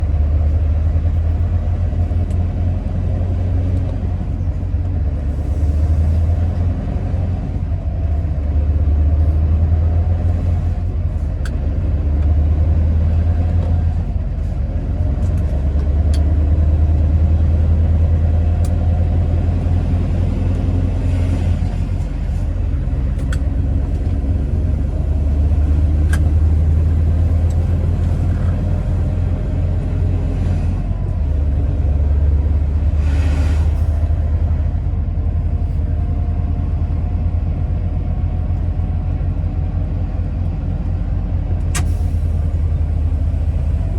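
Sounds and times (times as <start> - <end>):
diesel truck engine rumble: 0.0 - 43.9.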